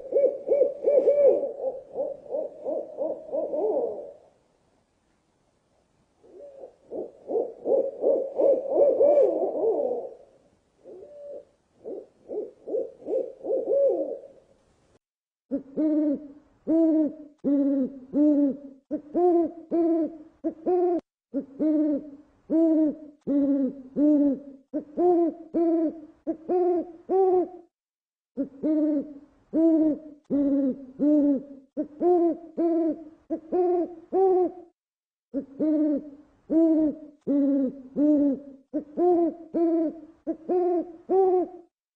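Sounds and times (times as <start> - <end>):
owl hooting: 0.0 - 4.3, 6.2 - 14.4, 15.5 - 27.7, 28.4 - 34.7, 35.4 - 41.7.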